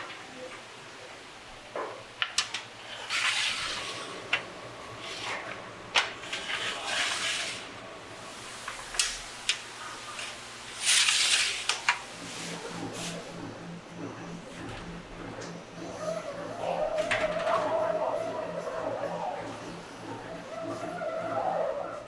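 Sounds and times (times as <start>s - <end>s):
trays scraping along metal rack: 2.7s - 22.0s.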